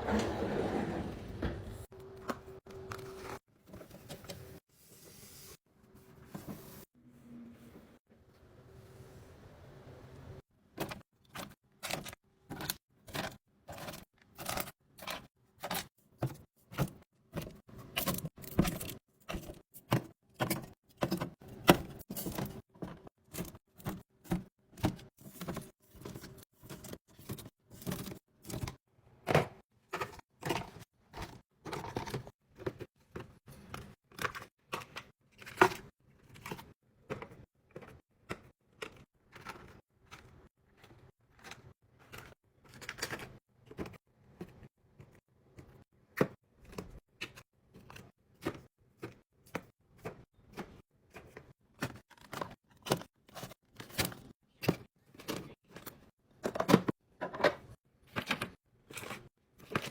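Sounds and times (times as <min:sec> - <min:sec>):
snack packages handled in fridge drawer: 0:01.7 - 0:04.6, 0:10.6 - 0:59.9.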